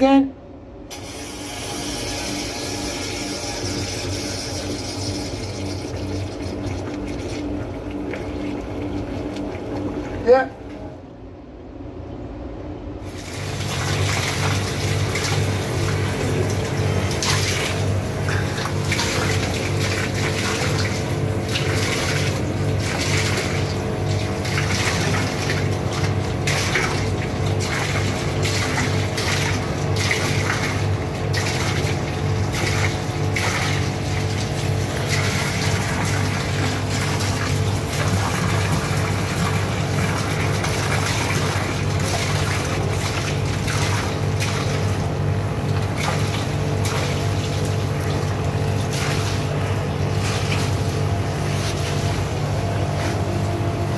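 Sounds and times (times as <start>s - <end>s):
steady low hum: 0.0s - 53.9s
water running through drain: 0.9s - 10.4s, 13.0s - 52.6s.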